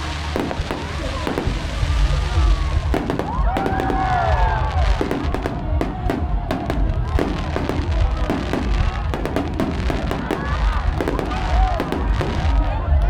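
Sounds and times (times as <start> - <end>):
deep rumble: 0.0 - 13.0
fireworks bursting and crackling: 0.0 - 13.0.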